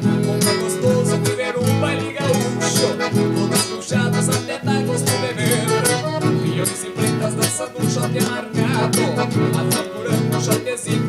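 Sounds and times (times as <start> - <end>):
accordion and guitar dance tune: 0.0 - 11.0.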